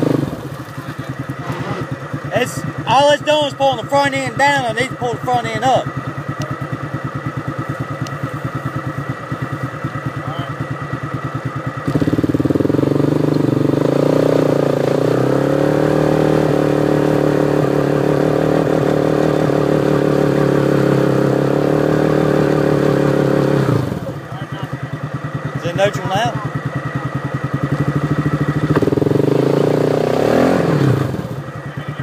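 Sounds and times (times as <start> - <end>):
vehicle engine idling and revving: 0.0 - 32.0.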